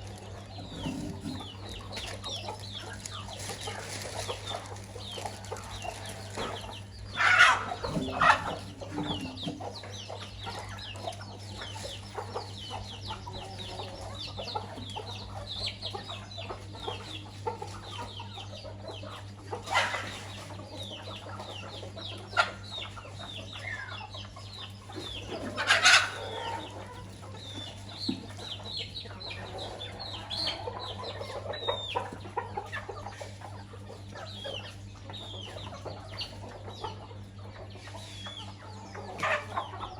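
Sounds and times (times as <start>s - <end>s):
chickens clucking: 0.0s - 39.9s
chicks peeping: 0.0s - 39.9s
loud sharp chicken calls: 0.1s - 12.8s, 19.1s - 39.9s.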